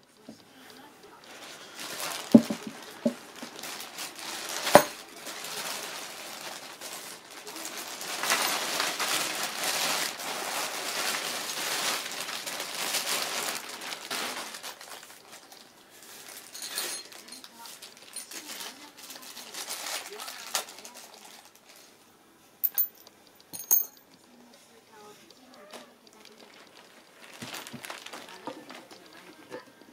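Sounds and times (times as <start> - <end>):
plastic bag crinkling: 0.7 - 21.9, 25.3 - 29.9.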